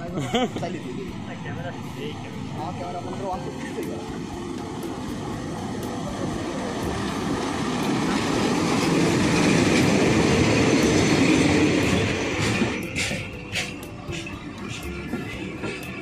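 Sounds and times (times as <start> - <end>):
train rumbling along rails: 0.0 - 16.0.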